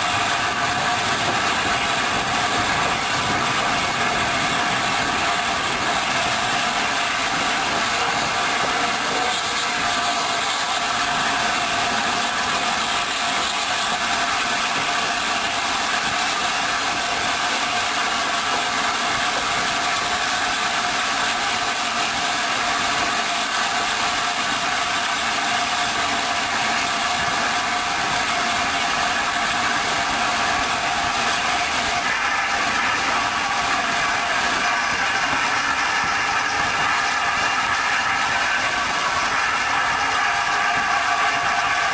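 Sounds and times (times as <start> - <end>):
train rumbling and rattling: 0.0 - 41.9.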